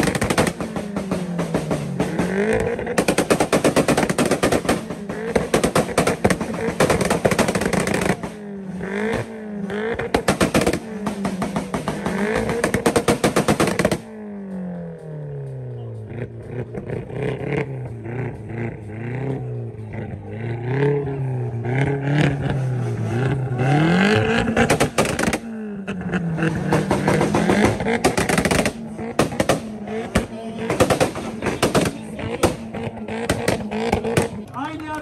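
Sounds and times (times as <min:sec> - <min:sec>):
exhaust pops and bangs: 0:00.0 - 0:20.3, 0:21.8 - 0:35.0
car engine revving: 0:00.0 - 0:35.0.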